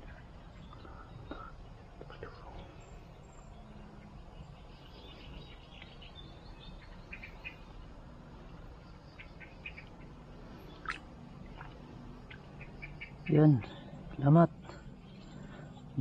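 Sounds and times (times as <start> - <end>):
faint bird chirps: 0.0 - 16.0
low background noise: 0.0 - 16.0.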